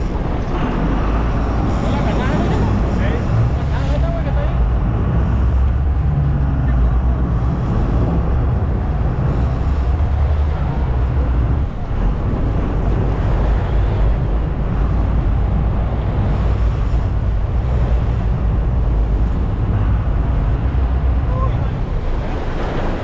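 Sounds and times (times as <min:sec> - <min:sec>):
boat engine drone: 0:00.0 - 0:23.0
water rushing: 0:00.0 - 0:23.0
wind buffeting microphone: 0:00.0 - 0:23.0.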